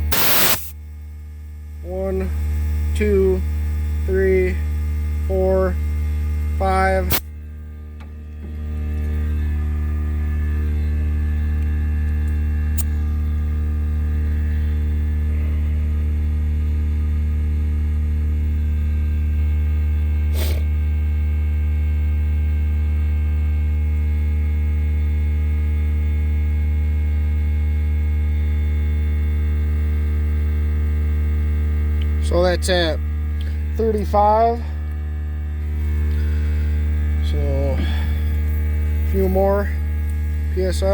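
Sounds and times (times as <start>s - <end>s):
air compressor motor humming: 0.0s - 40.9s.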